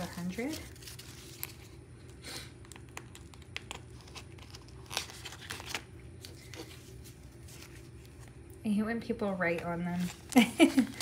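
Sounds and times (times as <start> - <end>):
plastic crinkling: 0.0 - 8.4, 9.5 - 11.0.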